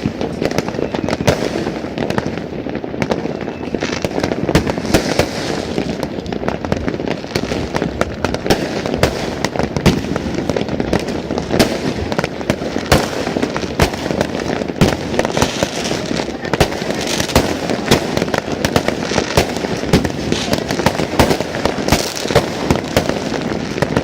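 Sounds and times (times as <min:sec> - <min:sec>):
distant explosions rumbling: 0:00.0 - 0:24.0
fireworks bangs and pops: 0:00.0 - 0:24.0.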